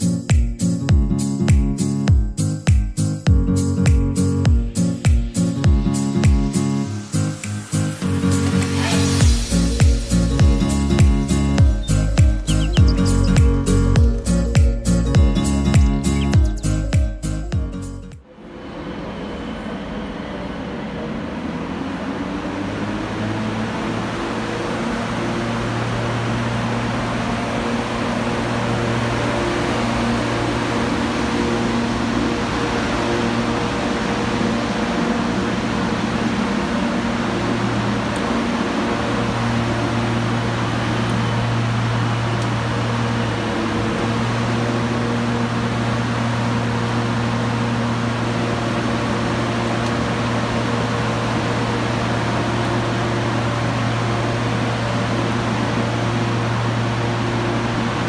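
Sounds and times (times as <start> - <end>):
cooling fans rushing: 0.0 - 58.0
electric locomotive humming: 0.0 - 58.0.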